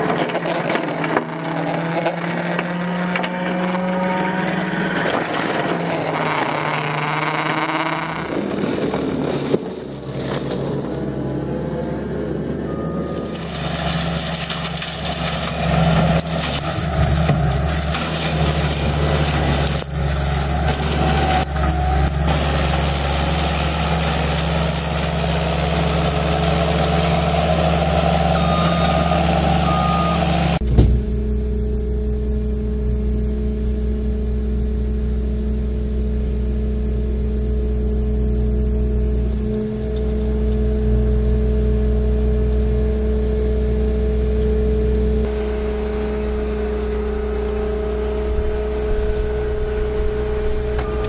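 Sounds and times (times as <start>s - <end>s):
low engine hum: 0.0s - 51.0s
heavy machinery engines running: 4.4s - 51.0s.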